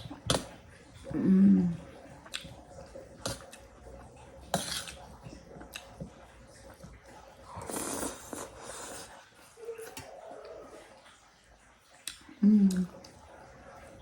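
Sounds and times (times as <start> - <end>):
chewing: 0.1 - 14.0.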